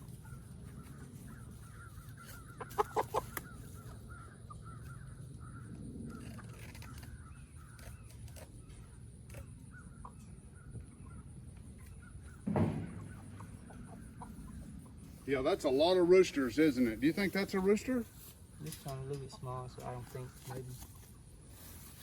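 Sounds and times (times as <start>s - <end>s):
chickens clucking: 0.0s - 6.5s, 9.7s - 21.6s.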